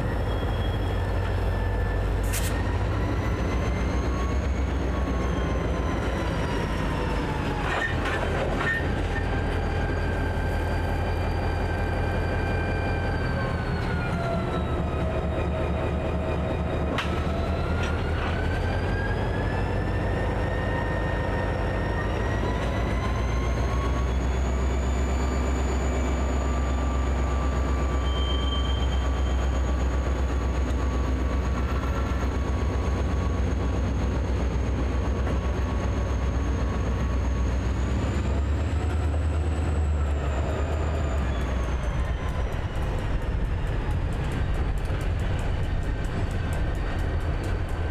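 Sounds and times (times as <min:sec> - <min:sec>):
locomotive engine rumble: 0:00.0 - 0:47.9.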